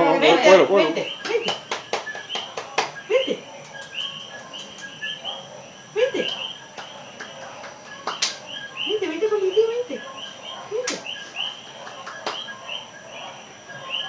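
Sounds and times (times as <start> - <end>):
small animals chirping: 0.4 - 14.0.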